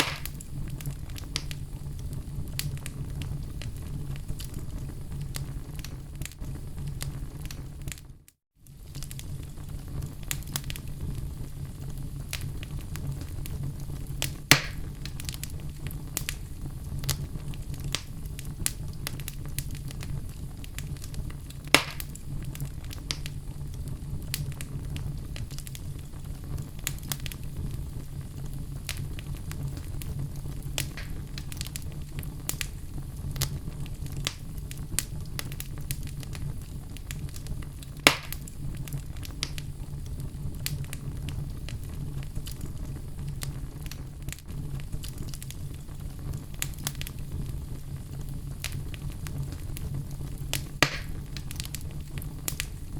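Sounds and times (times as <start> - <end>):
low fire rumble: 0.0 - 52.9
sharp fire pops: 0.0 - 52.9
wood fire crackling: 0.0 - 52.9.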